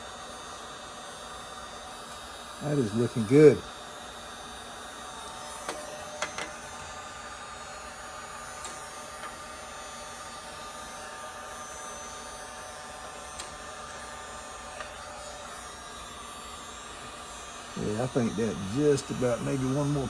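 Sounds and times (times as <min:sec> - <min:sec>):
heat gun blowing: 0:00.0 - 0:20.0.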